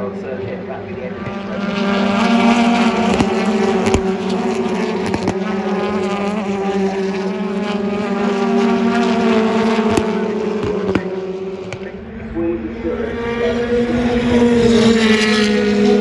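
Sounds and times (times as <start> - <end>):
racing car engines droning: 0.0 - 16.0.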